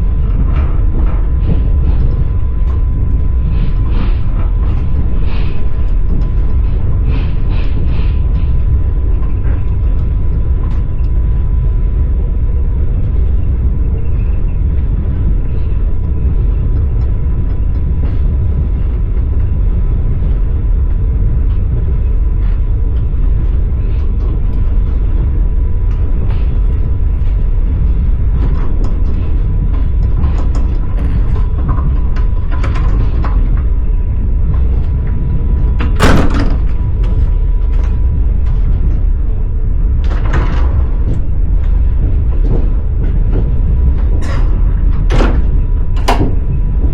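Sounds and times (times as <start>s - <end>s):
train carriage rumbling: 0.0s - 46.9s.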